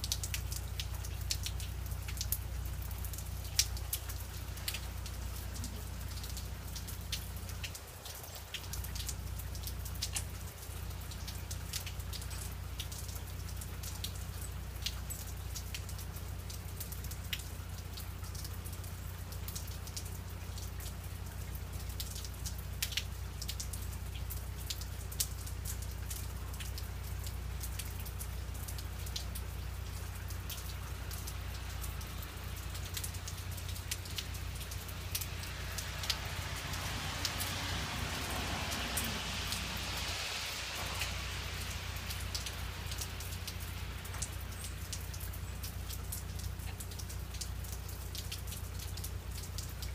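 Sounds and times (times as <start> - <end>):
freezing rain pattering on foliage: 0.0 - 49.9.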